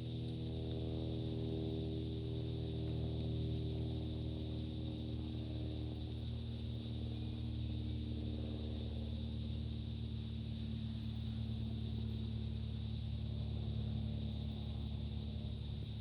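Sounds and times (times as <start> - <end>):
aircraft engines droning: 0.0 - 16.0
faint high whine: 0.0 - 16.0.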